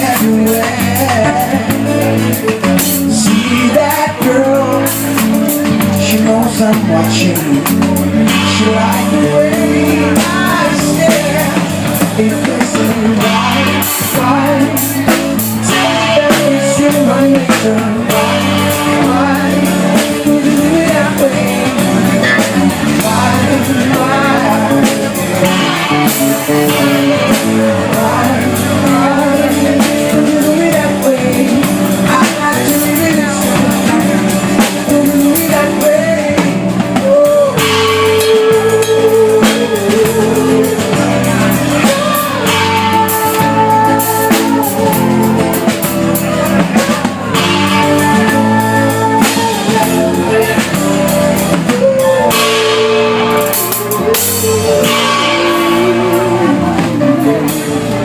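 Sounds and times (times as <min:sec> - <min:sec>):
live band playing pop song: 0:00.0 - 0:58.0
melodic lead line bending: 0:00.0 - 0:58.0.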